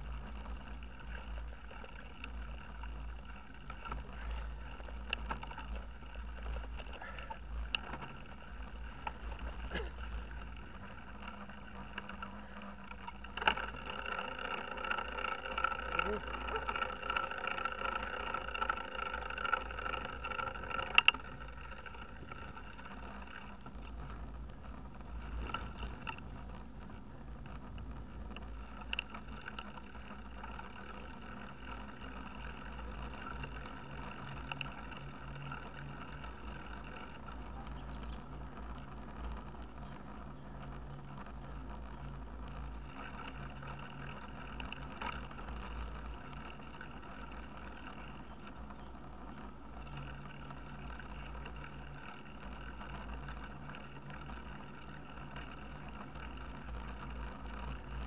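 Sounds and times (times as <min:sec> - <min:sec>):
bike tyre noise: 0:00.0 - 0:58.0
steady hum with overtones: 0:00.0 - 0:58.0.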